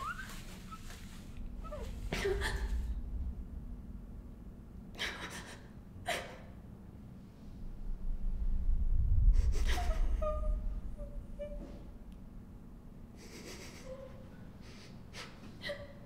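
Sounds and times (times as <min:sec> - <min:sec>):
low rumble: 0:00.0 - 0:14.7.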